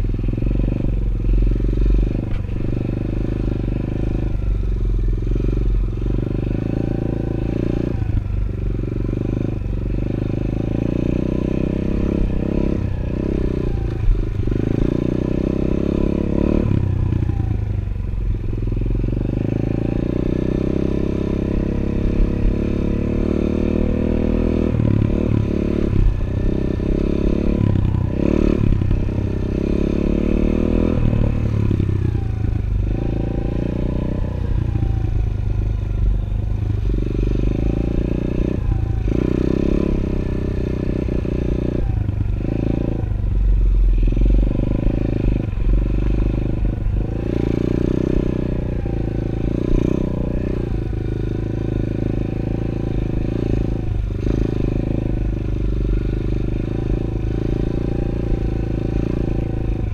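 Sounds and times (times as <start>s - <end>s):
small motorbike engine revving: 0.0s - 59.9s.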